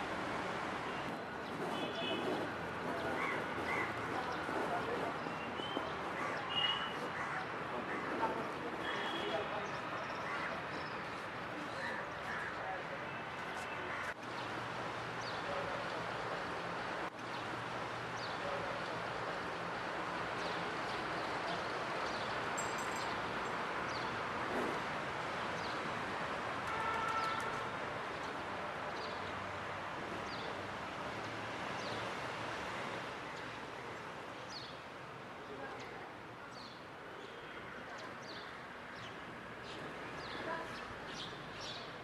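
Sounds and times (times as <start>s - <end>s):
city background noise: 0.0s - 42.0s.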